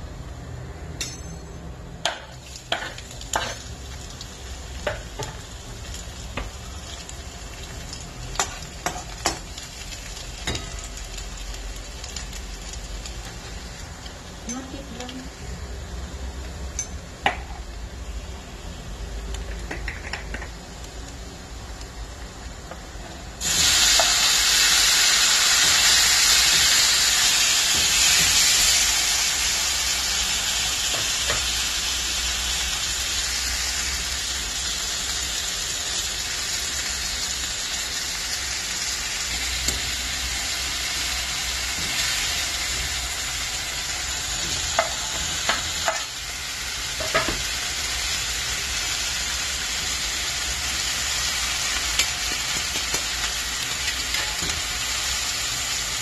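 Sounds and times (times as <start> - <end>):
food sizzling in hot oil: 2.1 - 56.0.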